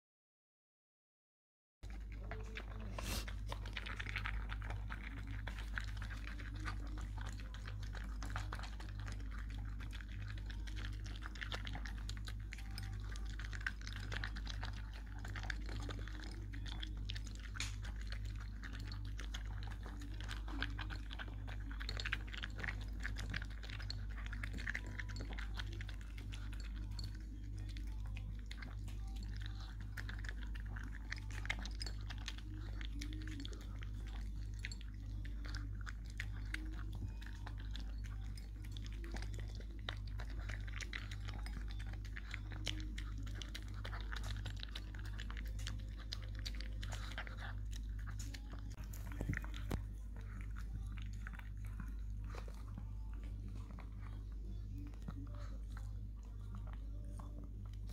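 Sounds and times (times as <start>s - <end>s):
dog crunching dry kibble: 1.8s - 57.9s.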